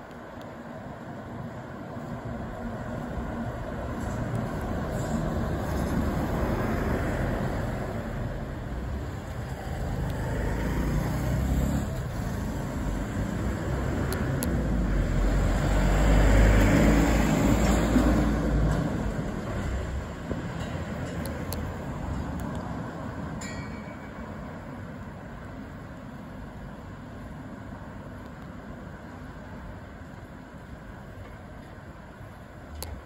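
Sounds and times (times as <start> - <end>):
passing traffic rumbling: 0.0 - 33.0.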